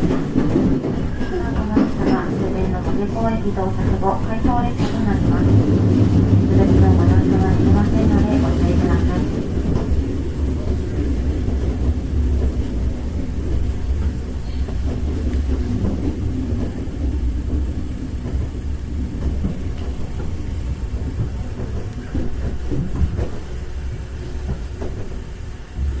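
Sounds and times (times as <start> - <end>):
train car rumbling on track: 0.0 - 26.0.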